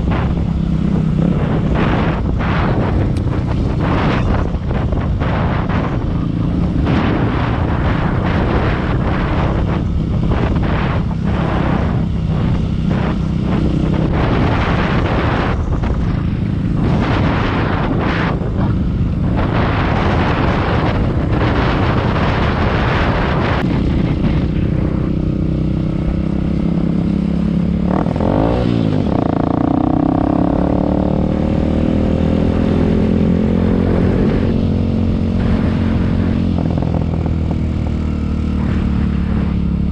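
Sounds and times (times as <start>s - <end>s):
dirt bike engine running: 0.0s - 39.9s
wind on microphone: 0.0s - 39.9s.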